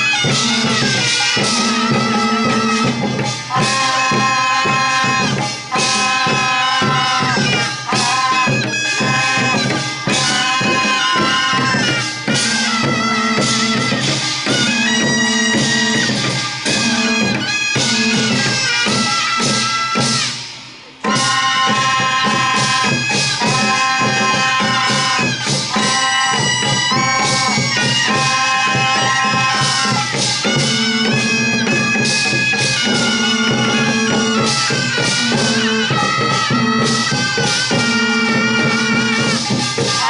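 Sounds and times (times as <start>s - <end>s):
shawms playing nasal melody: 0.0s - 20.4s, 21.0s - 40.0s
drum strokes: 0.0s - 40.0s.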